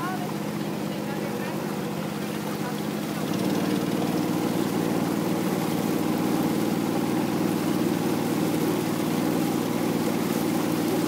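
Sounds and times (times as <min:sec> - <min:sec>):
boat engine pulsing drone: 0:00.0 - 0:11.0.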